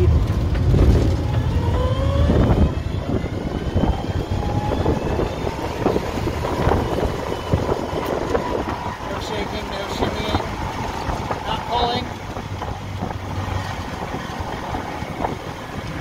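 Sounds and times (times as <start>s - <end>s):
car engine accelerating: 0.0s - 16.0s
road and wind rumble: 0.0s - 16.0s.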